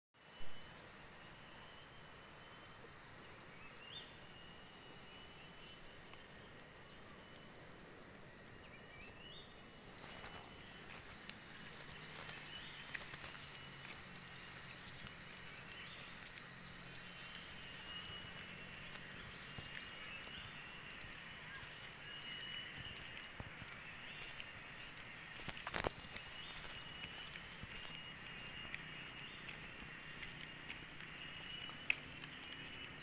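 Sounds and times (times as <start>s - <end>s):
lower insect tone: 0.2s - 33.0s.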